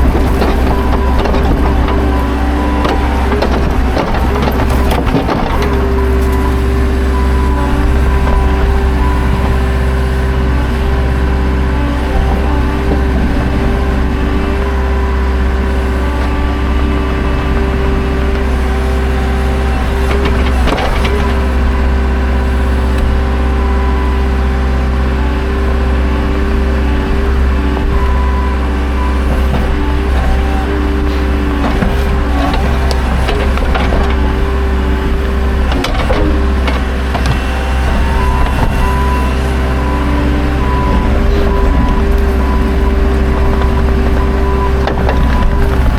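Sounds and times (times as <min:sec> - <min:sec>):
engine running with whine: 0:00.0 - 0:45.9.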